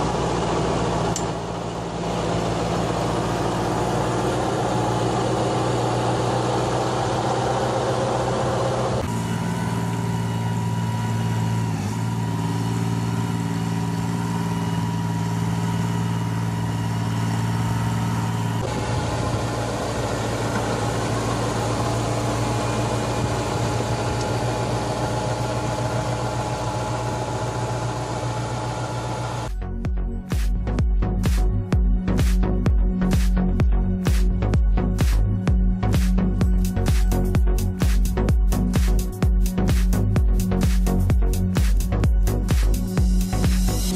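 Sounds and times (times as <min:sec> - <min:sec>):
tractor engines running: 0:00.0 - 0:43.9.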